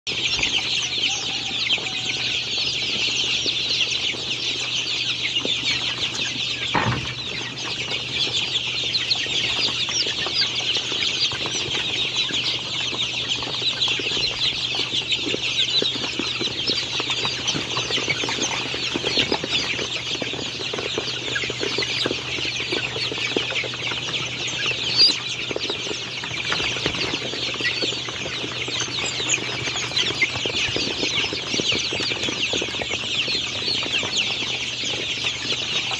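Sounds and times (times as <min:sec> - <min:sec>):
chicks peeping: 0:00.1 - 0:35.9.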